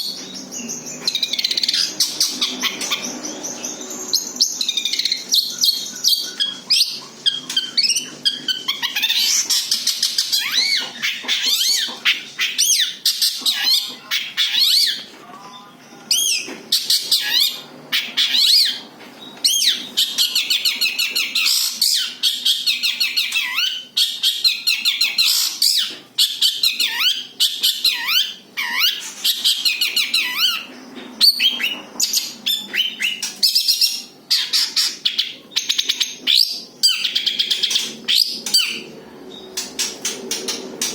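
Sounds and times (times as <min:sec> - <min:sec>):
bird chattering song: 0:00.0 - 0:15.1, 0:16.1 - 0:40.9.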